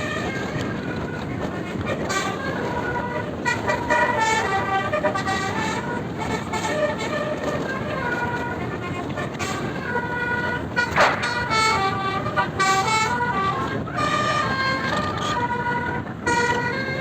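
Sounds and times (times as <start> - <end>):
musical bus horn tune: 0.0 - 17.0
road and engine rumble: 0.0 - 17.0.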